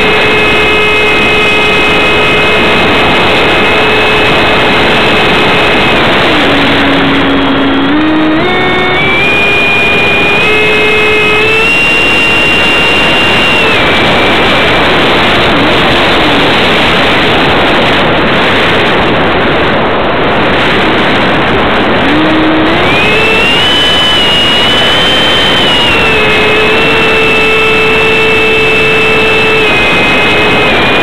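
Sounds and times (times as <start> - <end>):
electric ducted fan whining: 0.0 - 31.0
rush of air: 0.0 - 31.0.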